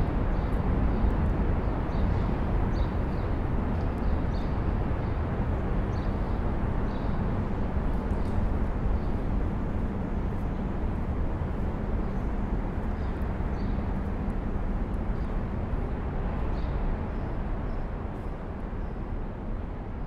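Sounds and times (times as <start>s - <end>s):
city traffic rumble: 0.0s - 20.0s.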